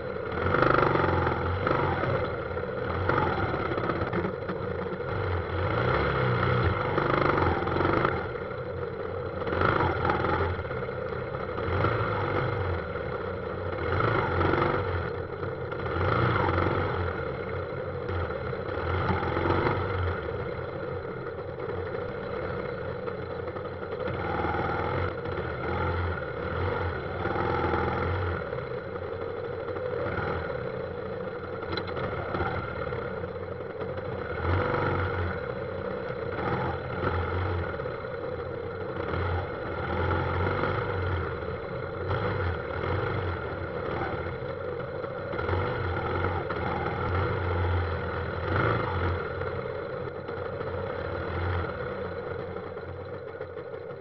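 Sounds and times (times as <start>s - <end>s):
car engines: 0.0s - 54.0s
motorcycle engines: 0.0s - 54.0s.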